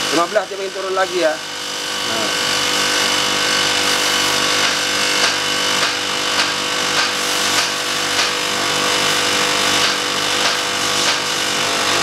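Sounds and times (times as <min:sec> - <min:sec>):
compressor running: 0:00.0 - 0:12.0.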